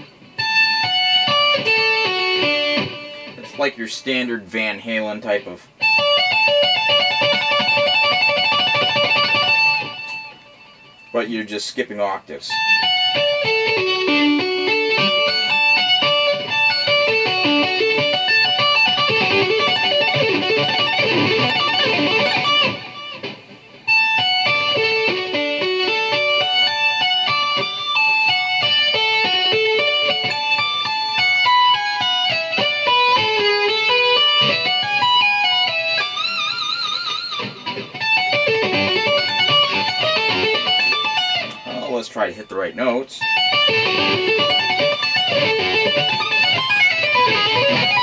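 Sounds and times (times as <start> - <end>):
electric guitar tapped arpeggios: 0.0 - 11.2, 12.5 - 48.0.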